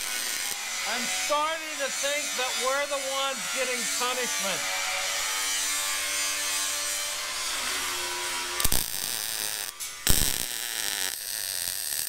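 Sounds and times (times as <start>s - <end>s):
angle grinder whining on metal: 0.0s - 12.0s
welder crackling and buzzing: 0.0s - 12.0s.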